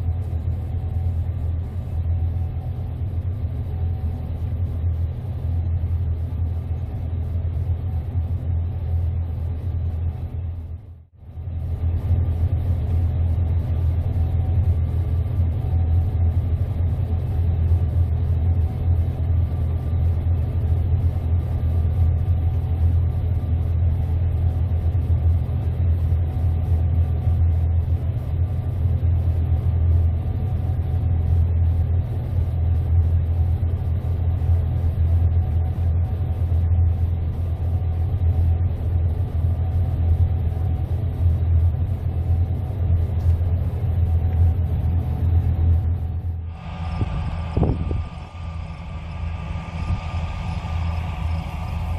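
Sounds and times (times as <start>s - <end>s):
combine harvester engine rumble: 0.0s - 51.9s
faint steady whine: 0.0s - 51.9s.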